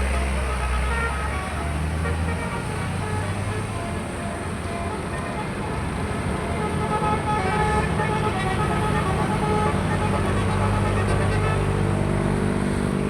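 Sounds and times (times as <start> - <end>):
bus engine rumble and road noise: 0.0 - 13.0.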